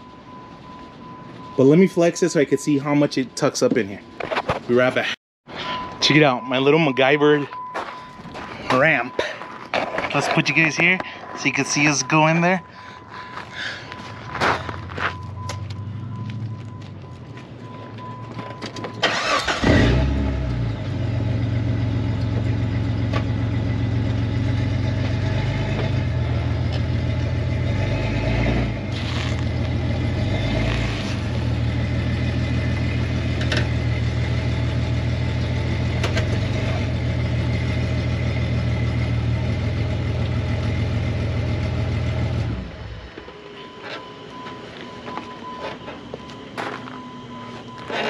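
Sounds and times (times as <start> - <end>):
car engine cranking and idling: 7.6 - 48.0.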